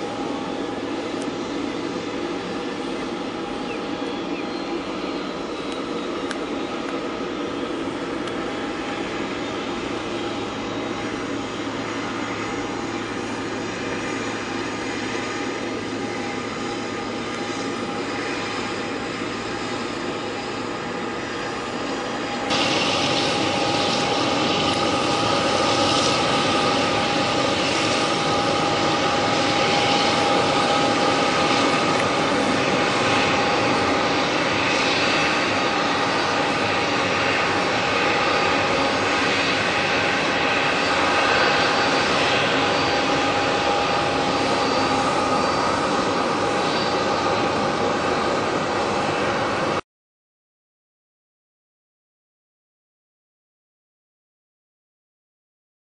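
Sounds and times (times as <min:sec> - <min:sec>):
jet engine whine: 0:00.0 - 0:49.8.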